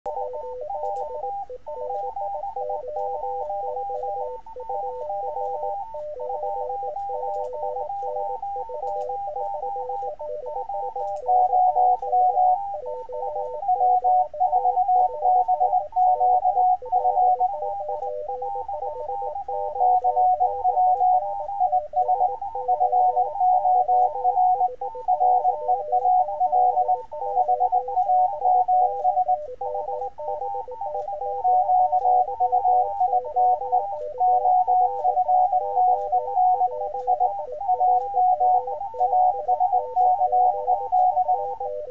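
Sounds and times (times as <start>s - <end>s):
loud morse code signal: 0.1s - 41.9s
morse code tones: 0.1s - 41.9s.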